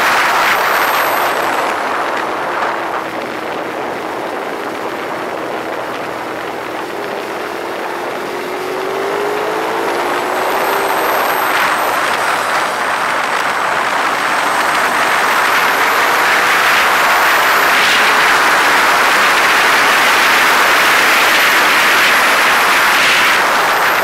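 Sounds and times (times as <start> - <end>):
motorcycle engine at speed: 0.0 - 24.0
wind rushing: 0.0 - 24.0.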